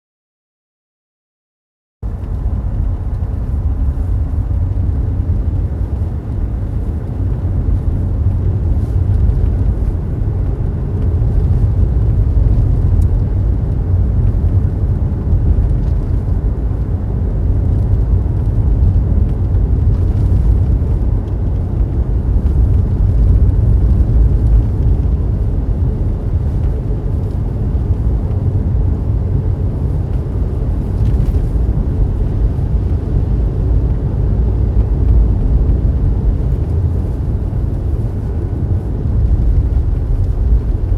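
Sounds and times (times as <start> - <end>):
road noise inside car: 2.0 - 40.9.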